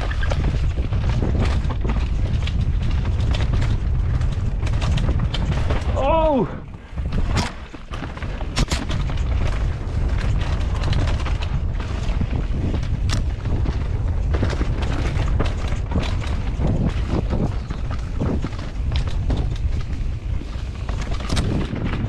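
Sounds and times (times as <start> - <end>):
bike knocking and rattling: 0.0 - 22.0
wind buffeting microphone: 0.0 - 22.0.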